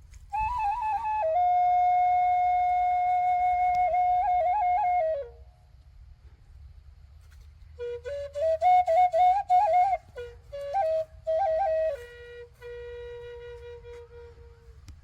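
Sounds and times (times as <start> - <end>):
solo flute melody: 0.0 - 5.7, 7.7 - 15.0.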